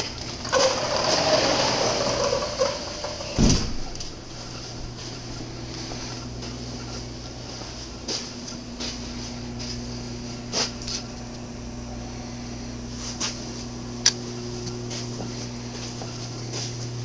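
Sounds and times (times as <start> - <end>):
air conditioning hum: 0.0 - 17.0.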